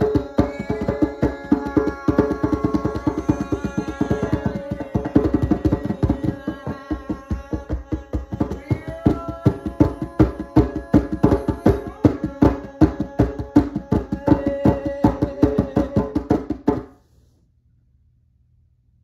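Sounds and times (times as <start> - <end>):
djembe played with bare hands: 0.0 - 16.9.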